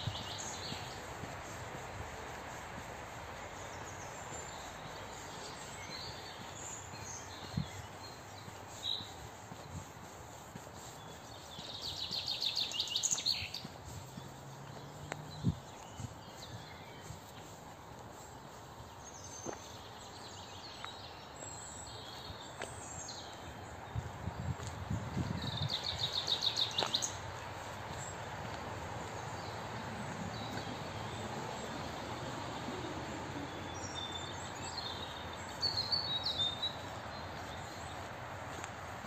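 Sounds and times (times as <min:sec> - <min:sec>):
songbirds singing: 0:00.0 - 0:39.0
steady outdoor hiss: 0:00.0 - 0:39.0.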